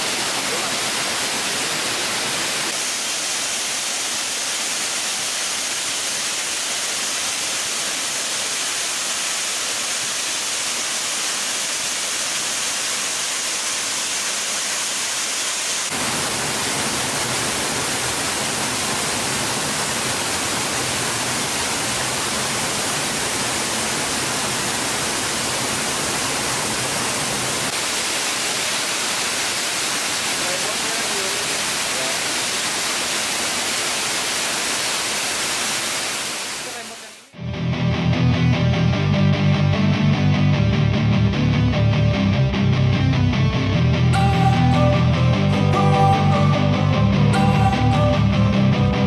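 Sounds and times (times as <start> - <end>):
waterfall rushing: 0.0 - 37.4, 44.2 - 49.0.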